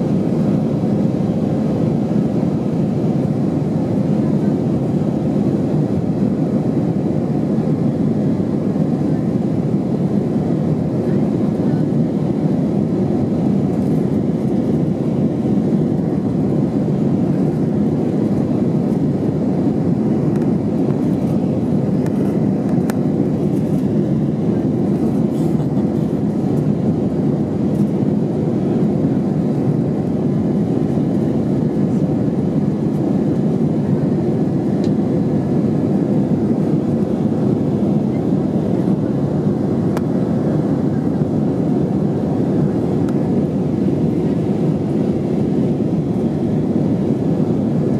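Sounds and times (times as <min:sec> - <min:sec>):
airplane cabin engine noise: 0:00.0 - 0:47.9.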